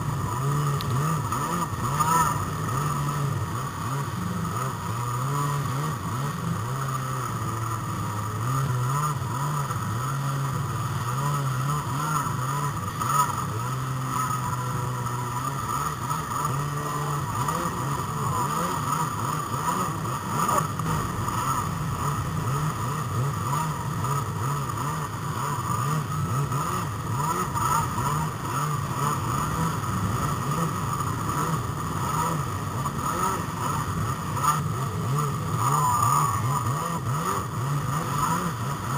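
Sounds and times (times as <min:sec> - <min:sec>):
jet ski engines running: 0:00.0 - 0:38.9.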